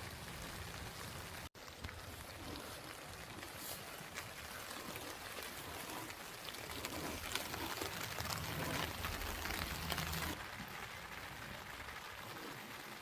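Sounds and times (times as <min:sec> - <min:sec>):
rain drops striking a surface: 0:00.0 - 0:13.0.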